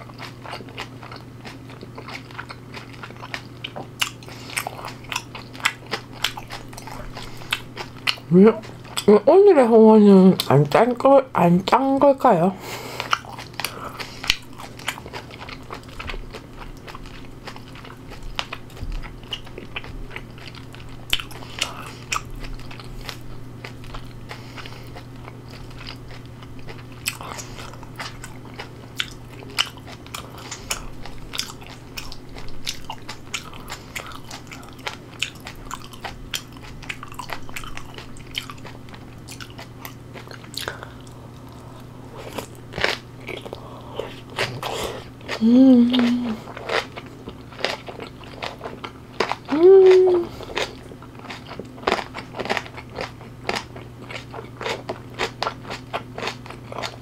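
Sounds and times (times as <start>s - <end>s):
crisp chewing crunches: 0.0s - 9.1s, 12.9s - 57.0s
steady low hum: 0.0s - 57.0s.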